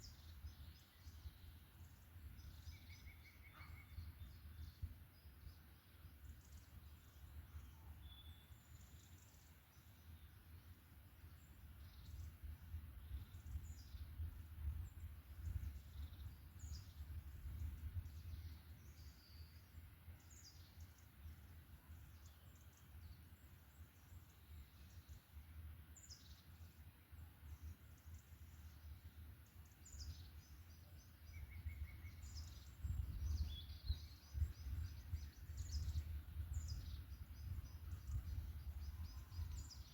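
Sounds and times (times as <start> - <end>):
forest birds chirping: 0.0 - 39.9.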